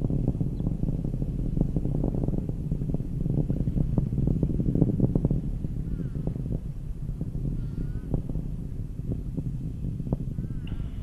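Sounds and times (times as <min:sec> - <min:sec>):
rocket engine rumble with crackling: 0:00.0 - 0:11.0.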